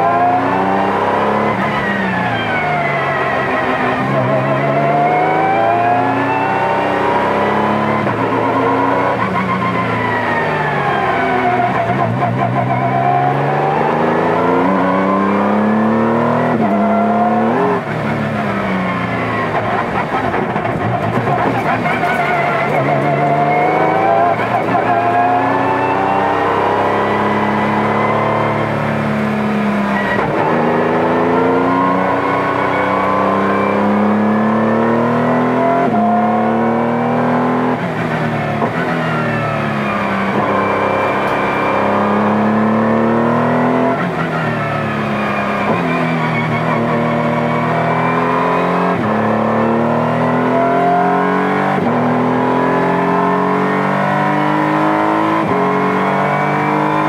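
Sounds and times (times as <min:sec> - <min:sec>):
race car engine at speed: 0:00.0 - 0:57.0
engine gearshifts: 0:03.2 - 0:57.0.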